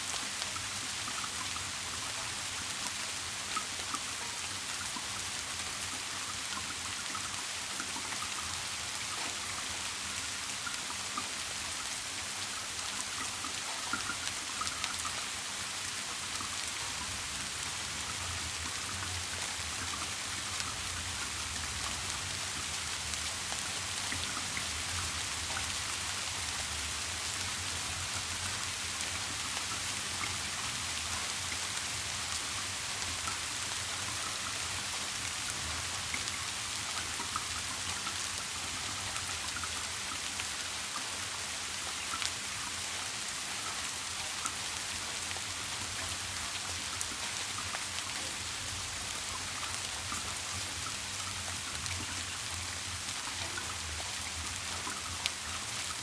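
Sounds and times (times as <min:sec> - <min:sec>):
steady rain hiss: 0:00.0 - 0:56.0
raindrops ticking: 0:00.1 - 0:56.0.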